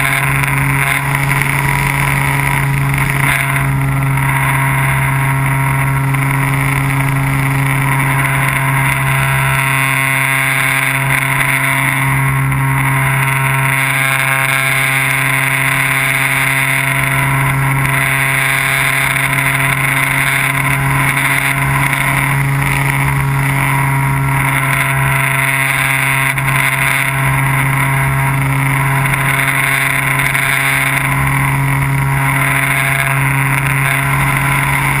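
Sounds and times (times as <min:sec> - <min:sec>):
drone motor and propeller: 0:00.0 - 0:35.0.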